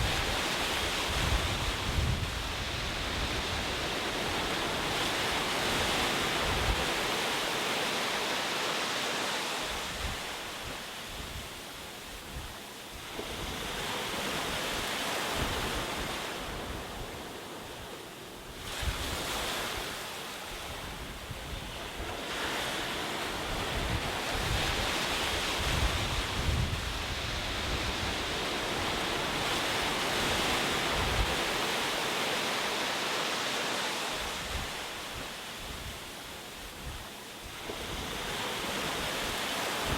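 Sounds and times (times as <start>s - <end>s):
ocean waves breaking: 0.0s - 12.0s, 12.9s - 39.9s.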